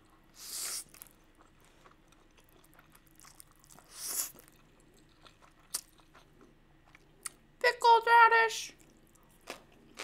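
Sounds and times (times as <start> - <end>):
soft chewing: 0.0 - 7.5, 8.7 - 10.0.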